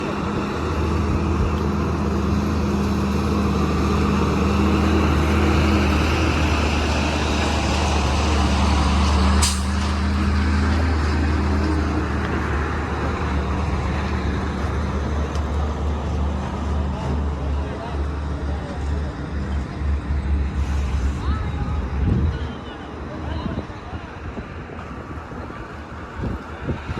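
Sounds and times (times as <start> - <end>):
diesel truck engine running: 0.0 - 26.9.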